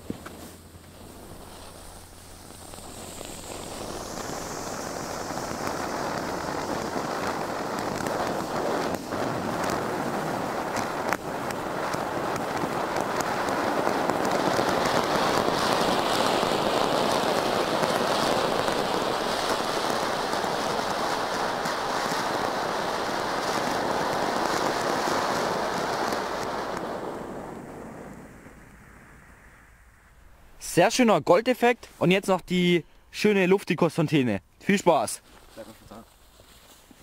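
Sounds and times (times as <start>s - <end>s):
firework fountain hissing: 0.0s - 33.4s
firework sparks crackling: 0.0s - 37.0s.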